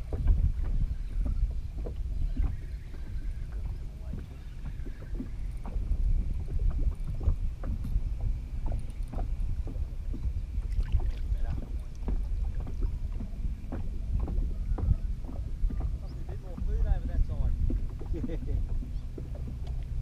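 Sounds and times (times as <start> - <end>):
steady low rumble: 0.0 - 20.0
waves slapping against boat hull: 0.0 - 20.0.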